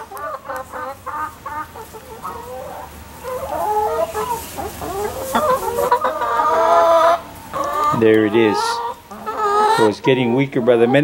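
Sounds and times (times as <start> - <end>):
hens clucking and calling: 0.0 - 11.0.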